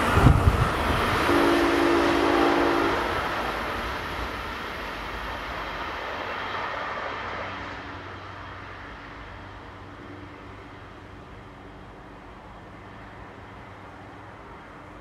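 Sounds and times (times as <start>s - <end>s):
passing train rumble: 0.0s - 15.0s.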